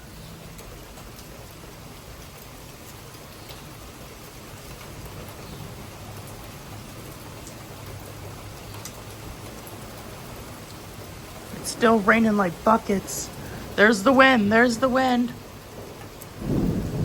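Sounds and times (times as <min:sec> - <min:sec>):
heavy rain pouring: 0:00.0 - 0:17.0
low rumble of wind: 0:00.0 - 0:17.0.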